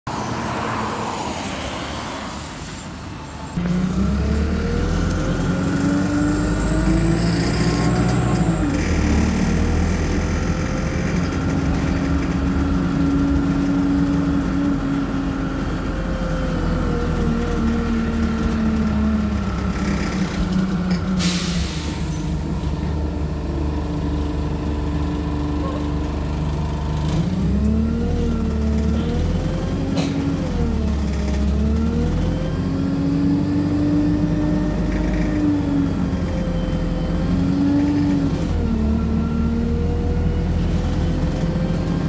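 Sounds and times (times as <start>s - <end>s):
bus diesel engine accelerating: 0.1s - 42.0s.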